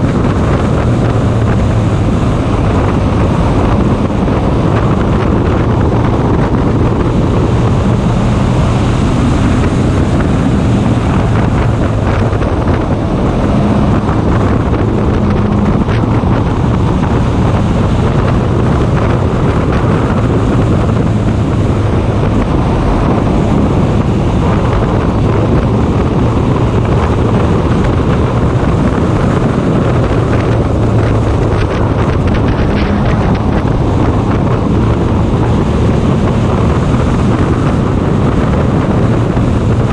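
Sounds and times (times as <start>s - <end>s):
race car engine running: 0.0s - 39.9s
wind buffeting microphone: 0.0s - 39.9s.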